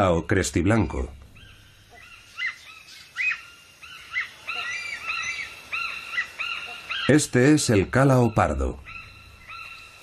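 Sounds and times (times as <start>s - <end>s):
hornbills calling: 0.6s - 10.0s.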